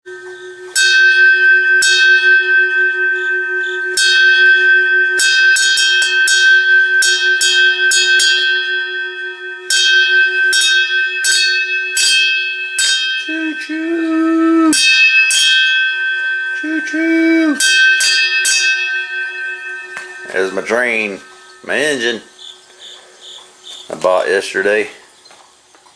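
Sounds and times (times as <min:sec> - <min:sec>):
pitched tone bending: 0:00.0 - 0:24.4
train bell ringing: 0:00.0 - 0:25.0.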